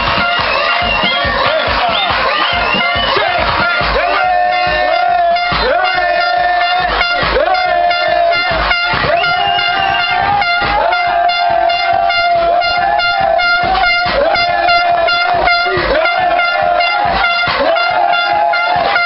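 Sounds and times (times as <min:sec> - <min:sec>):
crowd clapping or stamping: 0:00.0 - 0:19.0
horn blowing long notes: 0:00.0 - 0:19.0.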